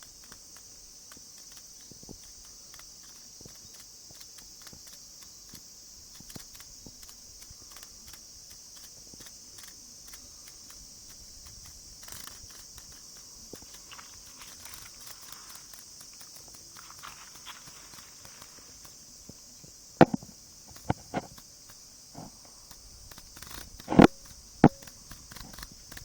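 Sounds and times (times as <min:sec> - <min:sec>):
cicadas shrilling: 0:00.0 - 0:26.0
faint clicks and ticks: 0:00.0 - 0:26.0.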